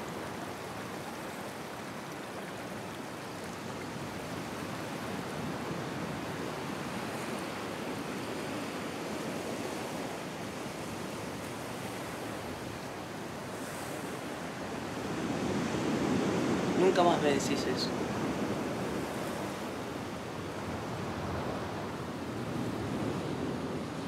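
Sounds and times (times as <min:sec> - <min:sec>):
ocean surf washing onto beach: 0:00.0 - 0:24.0.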